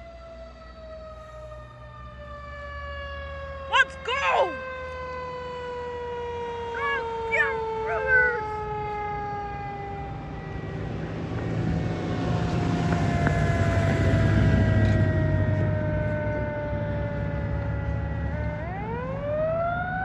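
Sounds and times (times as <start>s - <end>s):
siren yelps: 0.0s - 10.9s, 12.8s - 20.0s
fire engine siren wailing: 0.0s - 20.0s
truck engine rumble: 0.0s - 20.0s.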